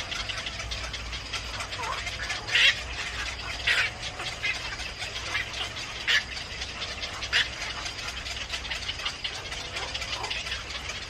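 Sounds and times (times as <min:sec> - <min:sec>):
harsh bird chirps: 0:00.0 - 0:11.0.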